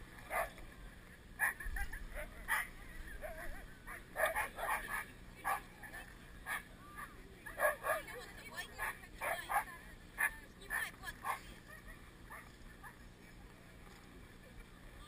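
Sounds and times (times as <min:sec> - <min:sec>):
sled dogs barking and yelping: 0:00.3 - 0:00.6, 0:01.4 - 0:13.1.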